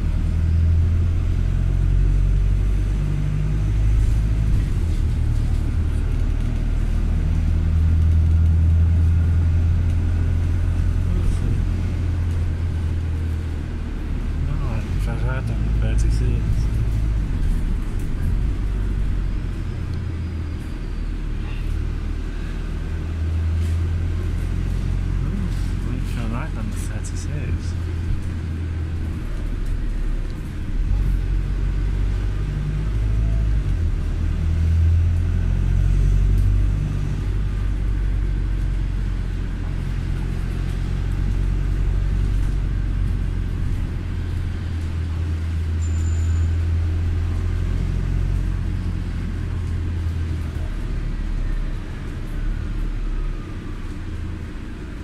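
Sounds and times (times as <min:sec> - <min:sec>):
vehicle rumbling on the move: 0:00.0 - 0:55.0.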